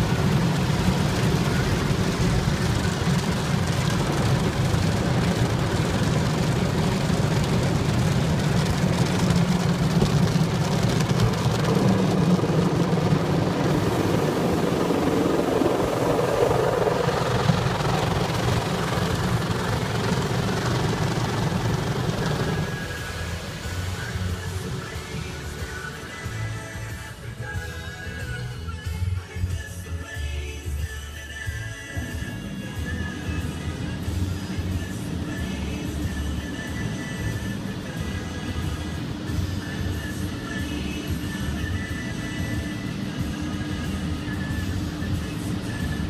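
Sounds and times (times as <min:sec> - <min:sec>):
car wash rushing hiss: 0:00.0 - 0:27.2, 0:31.9 - 0:46.0
car wash rumble: 0:00.0 - 0:46.0.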